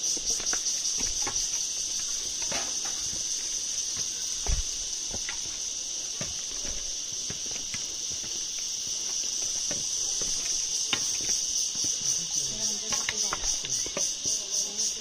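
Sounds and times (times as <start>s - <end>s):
footsteps on loose stones: 0.0s - 15.0s
insects droning: 0.0s - 15.0s.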